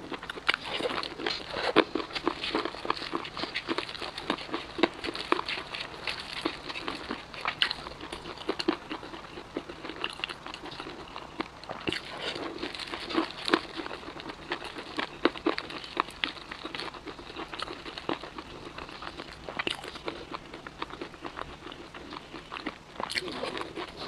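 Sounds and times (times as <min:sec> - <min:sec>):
crunching fried chicken: 0:00.0 - 0:24.0.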